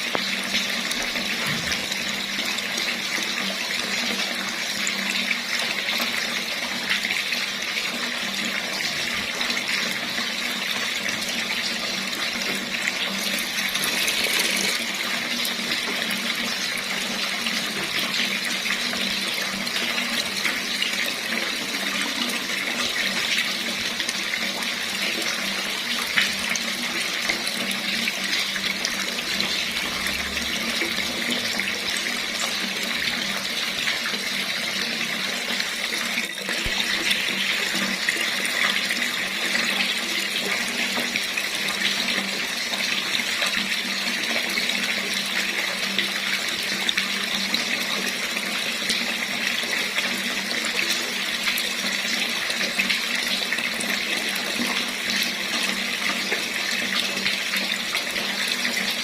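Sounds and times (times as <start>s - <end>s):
water running from a tap: 0.0s - 59.0s.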